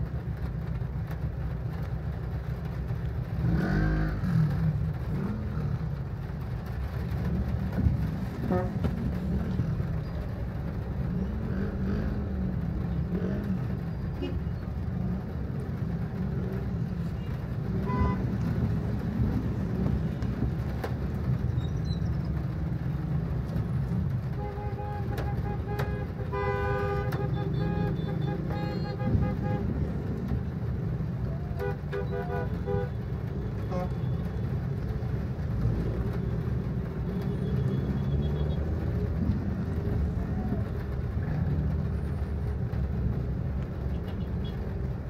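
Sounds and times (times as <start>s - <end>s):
rumble of car engines: 0.0s - 45.0s.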